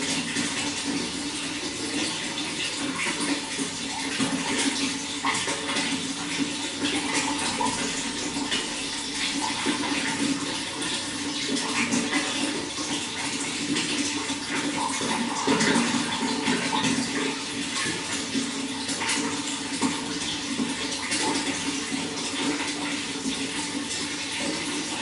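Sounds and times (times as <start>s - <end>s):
running water splashing: 0.0s - 25.0s.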